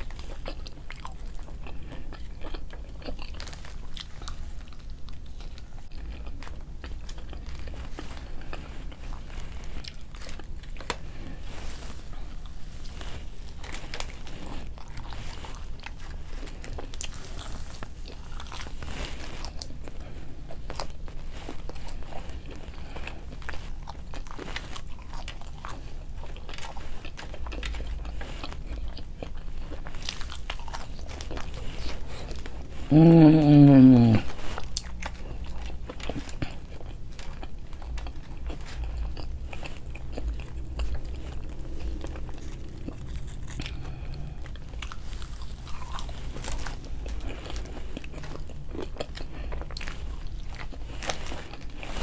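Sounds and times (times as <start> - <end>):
person biting and chewing: 0.0 - 52.0.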